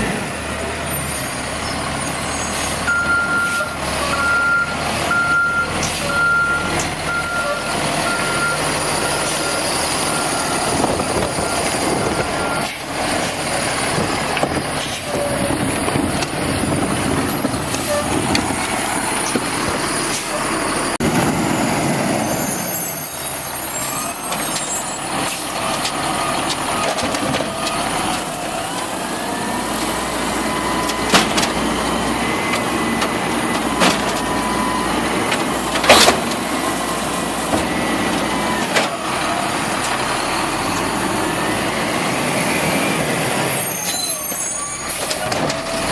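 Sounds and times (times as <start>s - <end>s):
garbage truck engine and machinery: 0.0s - 45.9s.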